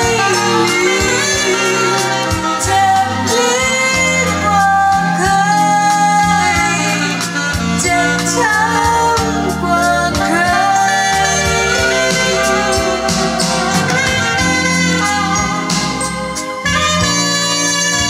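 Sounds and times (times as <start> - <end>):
song with vocals and bass: 0.0 - 18.0.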